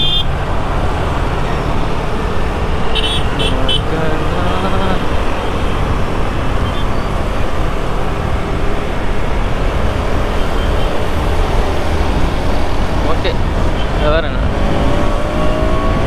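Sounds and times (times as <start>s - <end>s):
motorcycle engine: 0.0s - 16.0s
surrounding traffic: 0.0s - 16.0s.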